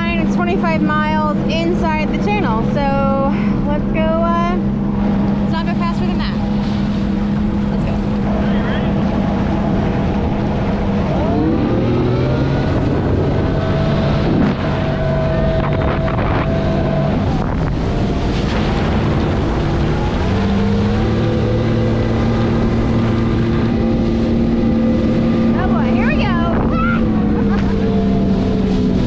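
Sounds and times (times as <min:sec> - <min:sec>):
jet ski engine: 0:00.0 - 0:29.0
wind noise on microphone: 0:00.0 - 0:29.0.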